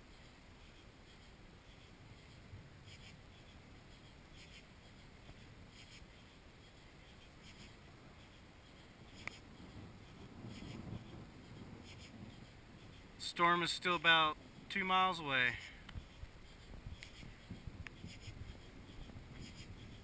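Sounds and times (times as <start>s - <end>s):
low hiss: 0.0s - 20.0s.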